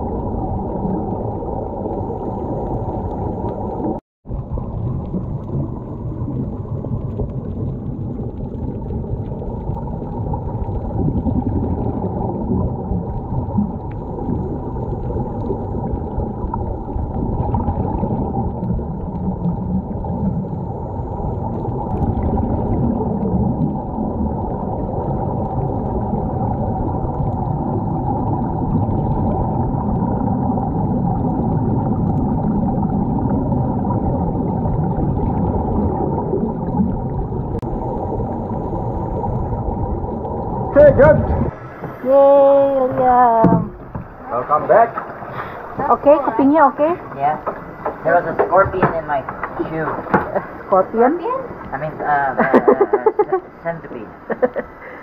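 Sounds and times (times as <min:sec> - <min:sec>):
bubbling water: 0:00.0 - 0:55.0
underwater rumble: 0:00.0 - 0:55.0.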